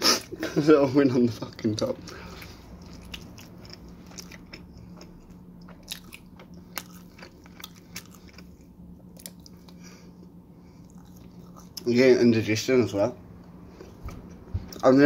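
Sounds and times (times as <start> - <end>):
person chewing pizza: 0.0 - 12.1, 13.4 - 15.0
steady low hum: 0.0 - 15.0.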